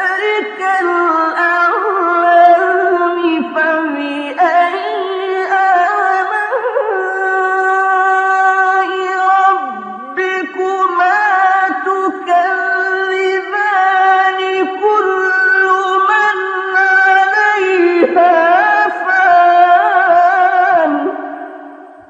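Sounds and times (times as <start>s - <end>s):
high voice chanting: 0.0s - 22.0s.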